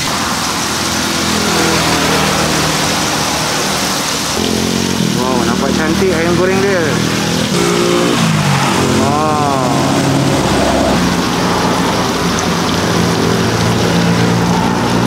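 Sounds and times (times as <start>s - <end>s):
oil sizzling in deep-fryer: 0.0s - 15.0s.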